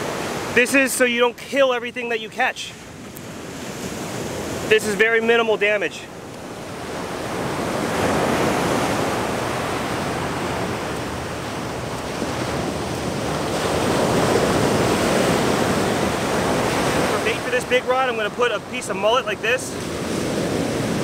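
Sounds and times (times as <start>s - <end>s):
ocean waves breaking on beach: 0.0s - 21.0s.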